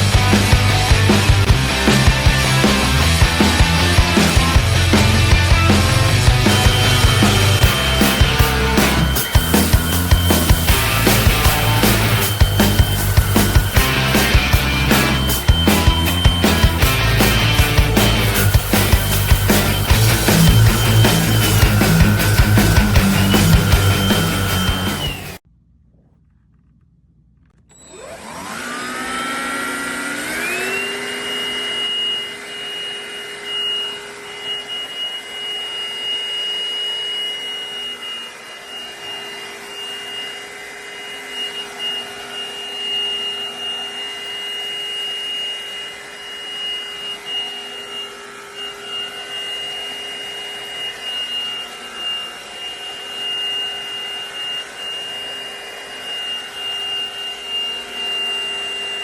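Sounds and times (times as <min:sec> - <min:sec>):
stick vacuum motor whine: 0:00.0 - 0:25.4, 0:27.6 - 0:59.0.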